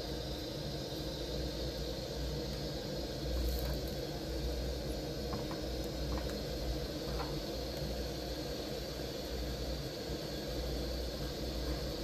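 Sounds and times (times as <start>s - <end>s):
food sizzling on a pan: 0.0s - 12.0s.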